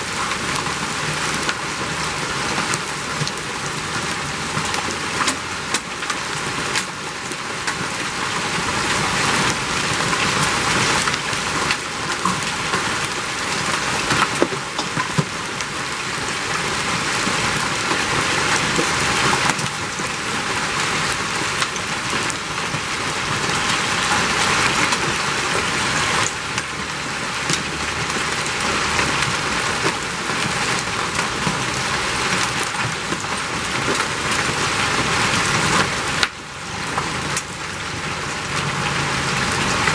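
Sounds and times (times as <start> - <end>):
hiss of falling ice and rain: 0.0 - 39.9.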